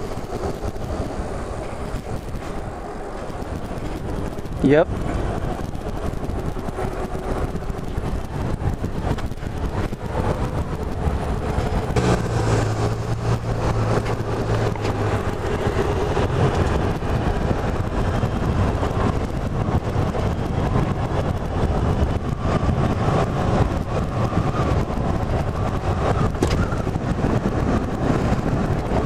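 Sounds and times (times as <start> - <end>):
road traffic noise: 0.0 - 29.0
vehicle engine hum: 0.0 - 29.0.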